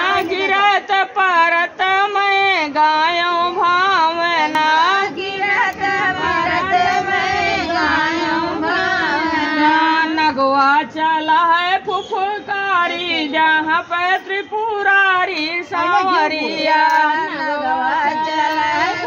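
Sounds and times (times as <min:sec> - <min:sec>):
women singing folk song: 0:00.0 - 0:19.0.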